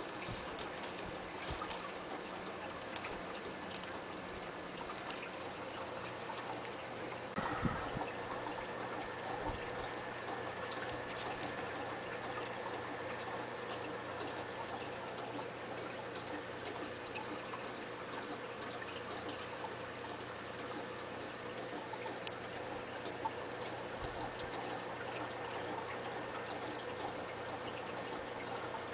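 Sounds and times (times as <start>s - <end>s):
faint hum: 0.0s - 28.9s
water trickling and pouring: 0.0s - 28.9s.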